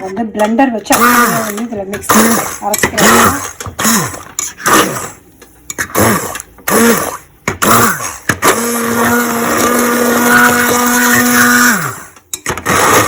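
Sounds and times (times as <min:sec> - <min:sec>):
hand blender motor: 0:00.9 - 0:05.2, 0:05.8 - 0:13.0.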